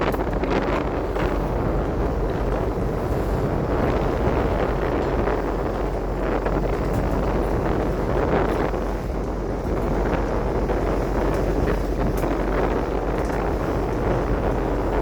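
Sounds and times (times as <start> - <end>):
boat engine drone: 0.0 - 15.0
wind buffeting microphone: 0.0 - 15.0.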